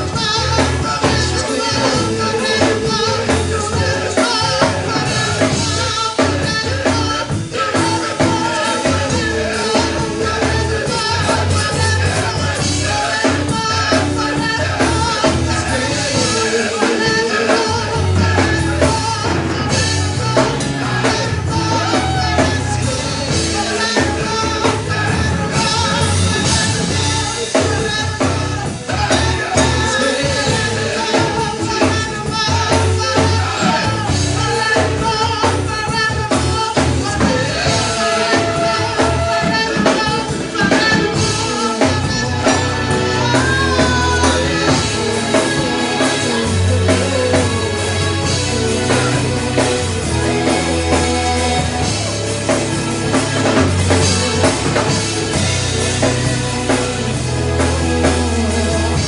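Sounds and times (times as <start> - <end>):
live worship band playing: 0.0 - 59.0
sung vocals: 0.0 - 59.0.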